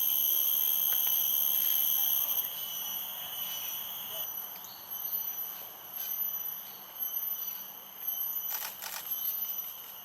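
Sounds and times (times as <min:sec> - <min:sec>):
high-pitched insect drone: 0:00.0 - 0:10.0.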